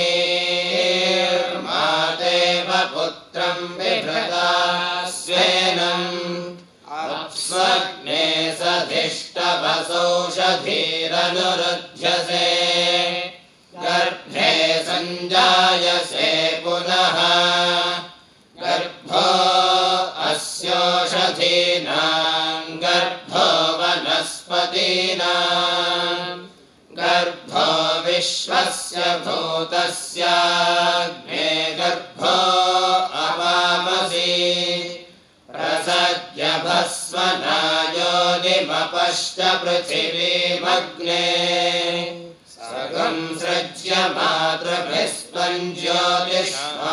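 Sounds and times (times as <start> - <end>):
men chanting together: 0.0 - 46.9.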